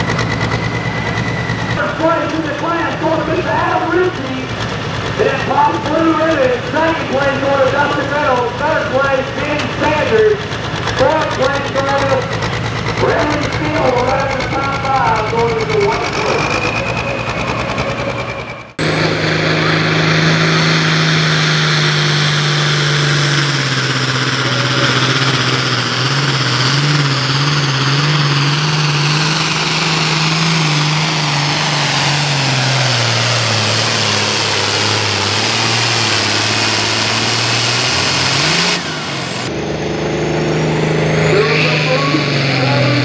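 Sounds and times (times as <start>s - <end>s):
other tractor engine: 0.0s - 43.0s
tractor diesel engine running: 0.0s - 43.0s.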